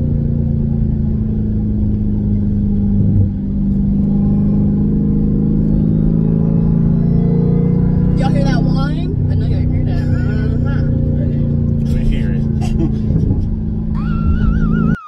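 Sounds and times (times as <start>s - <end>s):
car engine running from cabin: 0.0s - 15.0s.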